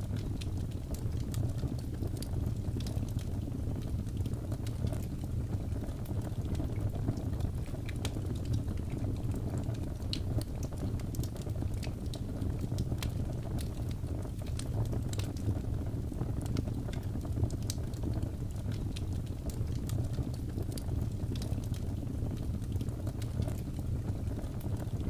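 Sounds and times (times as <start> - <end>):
wood crackling and popping: 0.0 - 25.0.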